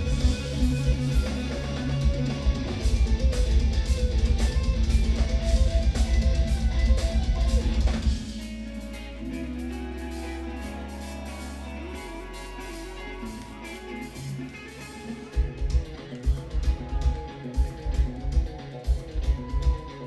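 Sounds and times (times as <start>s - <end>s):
electric guitar riffing: 0.0s - 20.0s.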